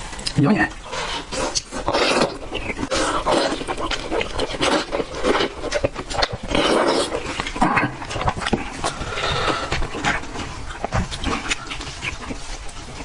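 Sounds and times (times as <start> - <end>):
wet chewing and smacking: 0.0 - 13.0.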